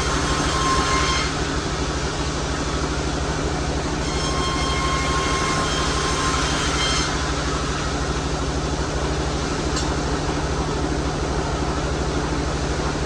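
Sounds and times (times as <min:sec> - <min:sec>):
sawmill machinery throbbing: 0:00.0 - 0:13.0.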